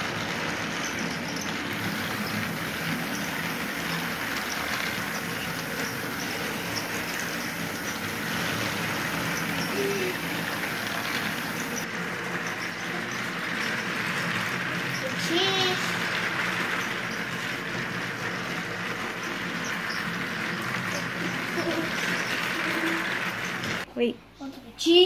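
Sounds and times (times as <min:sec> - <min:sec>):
toy train motors whirring: 0:00.0 - 0:23.9.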